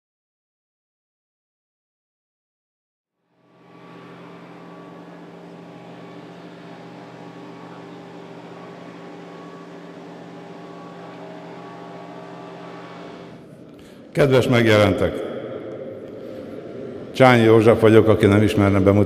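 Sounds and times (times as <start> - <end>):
machine hum: 3.2 - 19.0.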